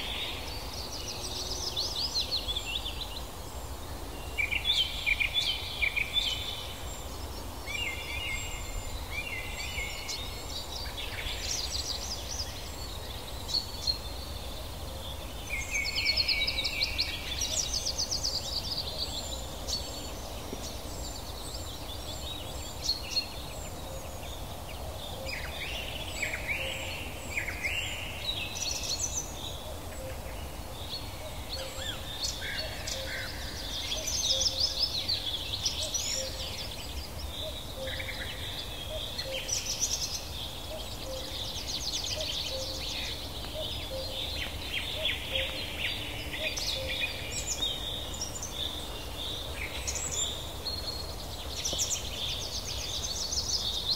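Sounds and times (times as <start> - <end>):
birds chirping and trilling: 4.1 - 53.9.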